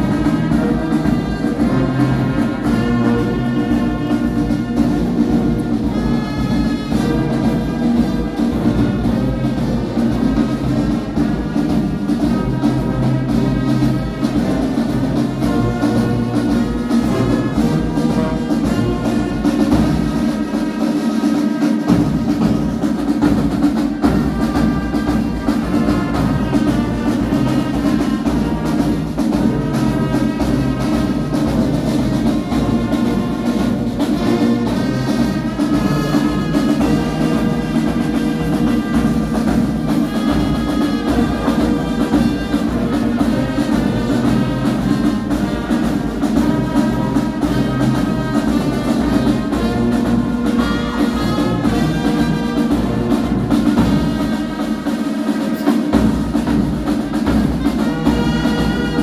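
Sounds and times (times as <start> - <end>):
brass band playing: 0.0 - 59.0
drums beating: 0.0 - 59.0.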